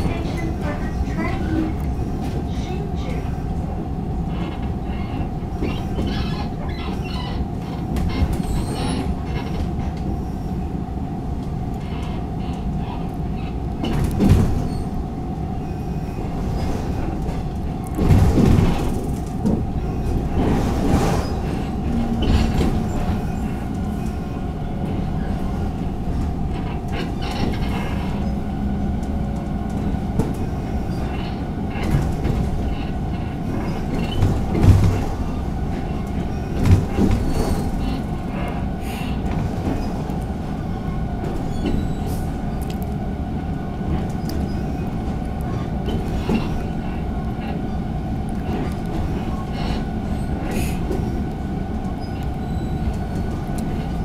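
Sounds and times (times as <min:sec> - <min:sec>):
constant hum: 0:00.0 - 0:54.0
train wheels rumbling on rail: 0:00.0 - 0:54.0.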